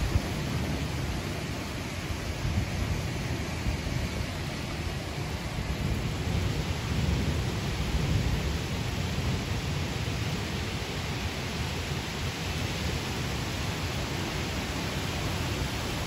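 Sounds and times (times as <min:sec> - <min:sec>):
gusting wind: 0:00.0 - 0:16.0
heavy rain pouring: 0:00.0 - 0:16.0.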